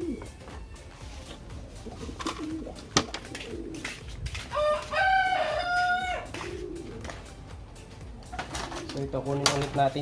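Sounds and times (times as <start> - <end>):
pigeons cooing: 0.0 - 0.5, 1.3 - 10.0
drawn-out pigeon call: 0.0 - 10.0.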